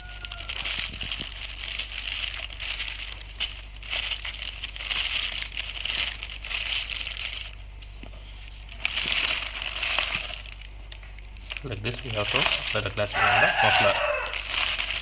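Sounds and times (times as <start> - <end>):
glass wool crinkling rustle: 0.0 - 15.0.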